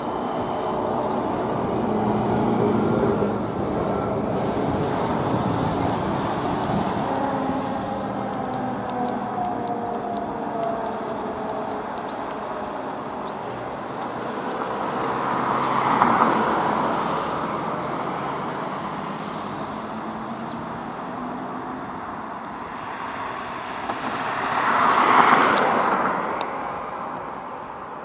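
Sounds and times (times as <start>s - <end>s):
cars passing close: 0.0s - 28.0s
steady traffic hum: 0.0s - 28.0s.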